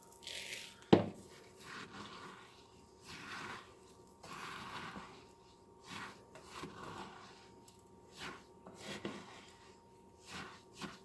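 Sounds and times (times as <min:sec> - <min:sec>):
spoon scraping sticky birdseed mixture: 0:00.0 - 0:11.0.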